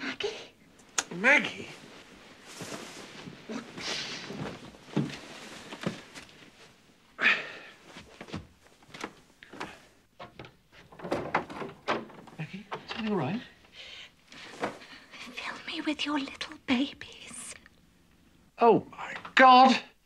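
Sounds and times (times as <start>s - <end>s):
bedclothes rustling: 0.6s - 17.5s.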